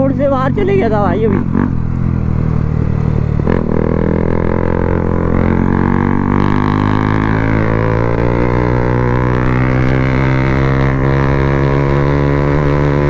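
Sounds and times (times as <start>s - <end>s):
motorcycle exhaust drone: 0.0s - 13.0s.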